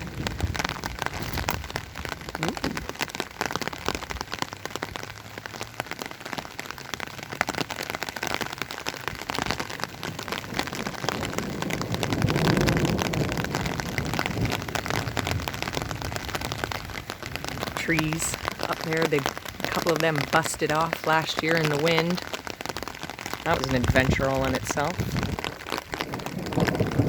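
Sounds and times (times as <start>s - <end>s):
thunder rumble: 0.0s - 4.2s, 9.0s - 27.0s
rain pattering: 0.0s - 27.0s.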